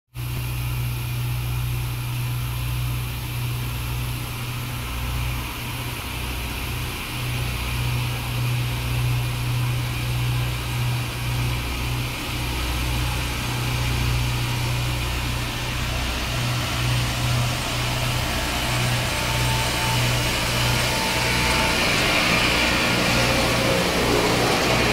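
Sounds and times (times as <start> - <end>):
machine hissing: 0.2 - 24.9
rail grinding machine engine drone: 0.2 - 24.9.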